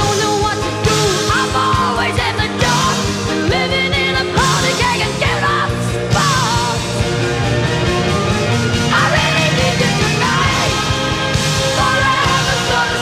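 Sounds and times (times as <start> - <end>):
rock music from vinyl record: 0.0 - 13.0.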